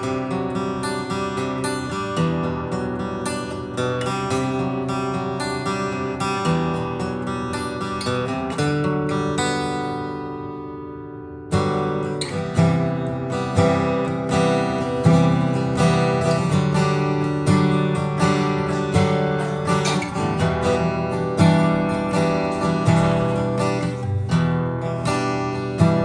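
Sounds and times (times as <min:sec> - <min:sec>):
acoustic guitar strummed chords: 0:00.0 - 0:26.0.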